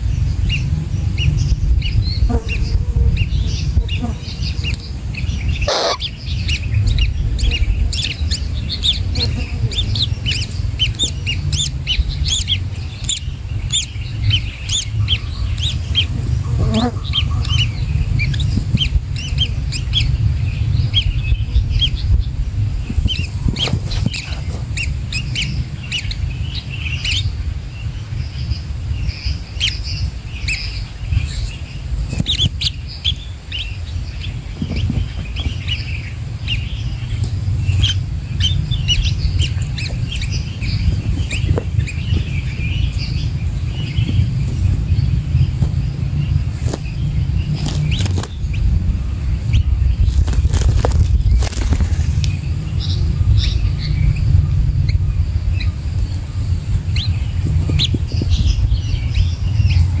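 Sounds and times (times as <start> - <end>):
birds chirping: 0.0 - 60.0
steady low rumble: 0.0 - 60.0.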